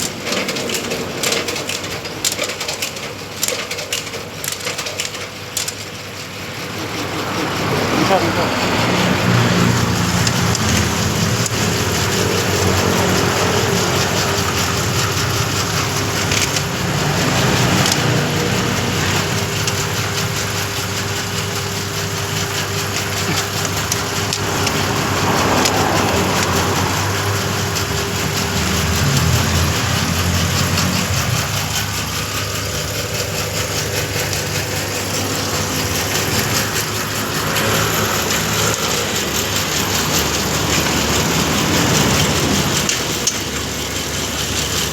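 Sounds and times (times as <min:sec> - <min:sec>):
motor hum: 0:00.0 - 0:44.9
rough grinding noise: 0:00.0 - 0:44.9.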